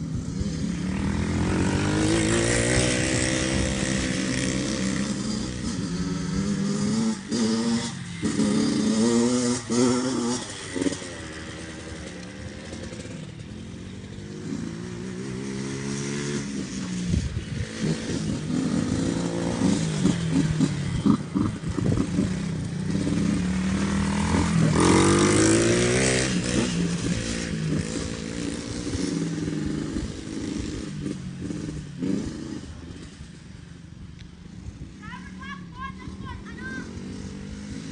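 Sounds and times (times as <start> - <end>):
dirt bike engine revving: 0.0 - 33.3, 35.3 - 37.9.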